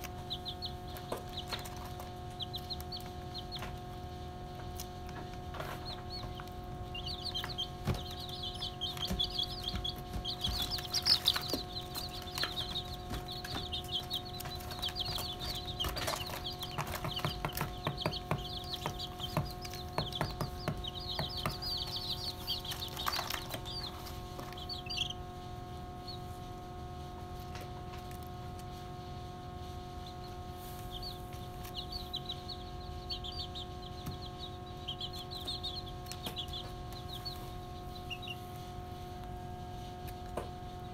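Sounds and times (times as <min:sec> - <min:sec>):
chicks peeping: 0:00.0 - 0:40.9
faint steady hum: 0:00.0 - 0:40.9.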